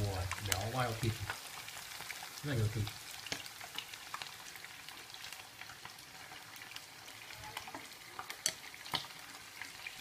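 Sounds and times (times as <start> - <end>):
deep-frying sizzle with crackles: 0.0 - 10.0.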